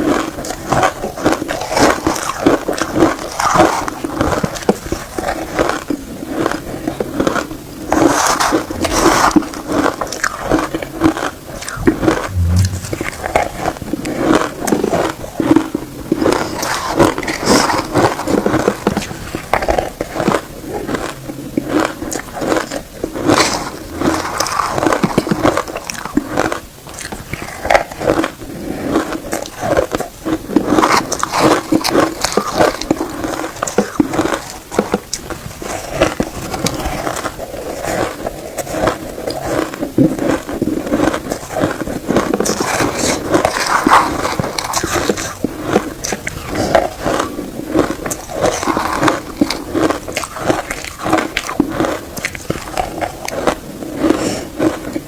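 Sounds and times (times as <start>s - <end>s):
person chewing crunchy ice: 0.0s - 12.7s, 17.3s - 55.0s.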